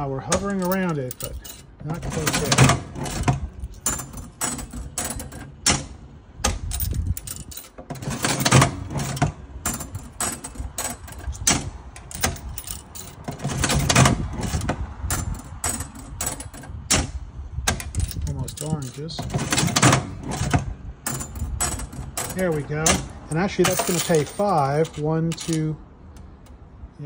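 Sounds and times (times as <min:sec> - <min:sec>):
slot machine reels clunking: 0:00.0 - 0:25.6
slot machine mechanism clattering: 0:00.0 - 0:25.8.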